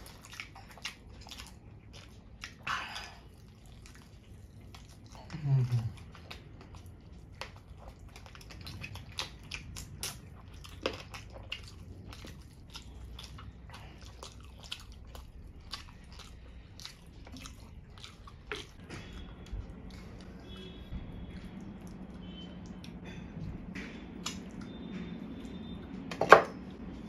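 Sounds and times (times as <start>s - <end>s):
people chewing fried chicken: 0.0s - 27.0s.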